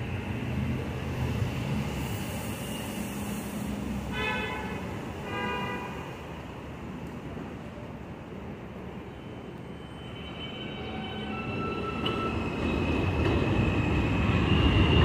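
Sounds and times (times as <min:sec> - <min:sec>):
rumble of trains: 0:00.0 - 0:15.0.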